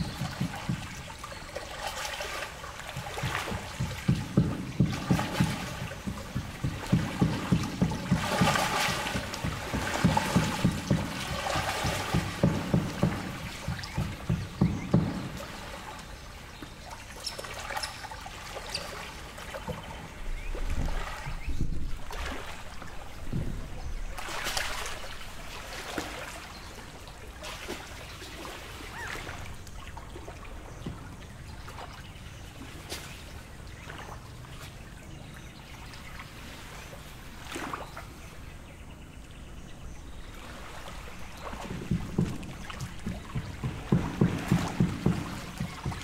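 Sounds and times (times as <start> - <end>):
low rhythmic water slapping: 0.0 - 46.0
water splashes: 0.0 - 46.0
waves lapping at shore: 0.0 - 46.0.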